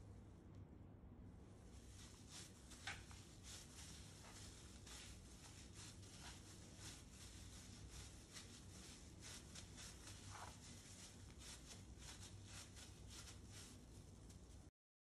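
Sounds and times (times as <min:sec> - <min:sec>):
plastic glove crinkling: 0:01.6 - 0:14.7
hand squishing minced meat: 0:01.7 - 0:14.7.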